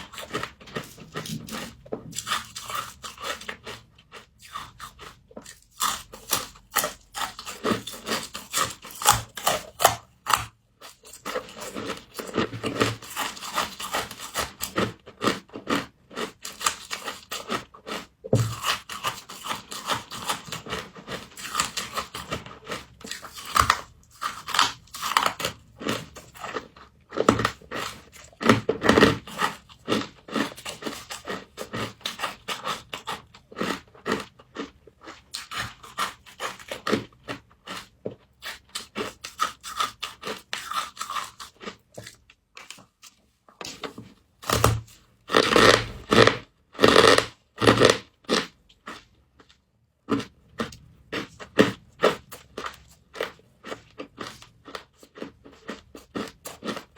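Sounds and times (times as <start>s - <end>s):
crunching and chewing frost: 0.0s - 56.9s.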